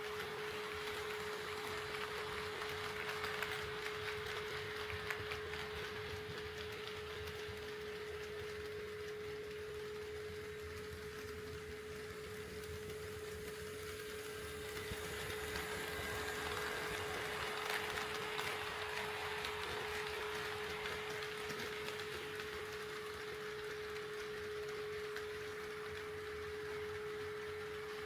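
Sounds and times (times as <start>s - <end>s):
model train motor whir: 0.0s - 8.6s, 9.8s - 28.0s
constant steady hum: 0.0s - 28.0s.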